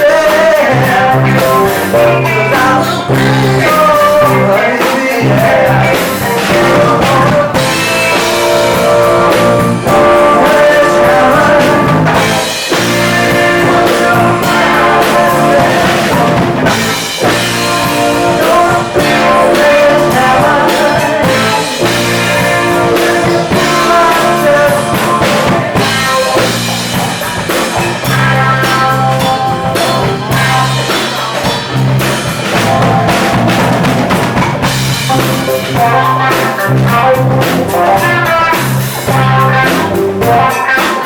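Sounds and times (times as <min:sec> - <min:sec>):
person singing: 0:00.0 - 0:33.6, 0:35.0 - 0:41.0
drums: 0:00.0 - 0:41.0
guitar: 0:00.0 - 0:41.0.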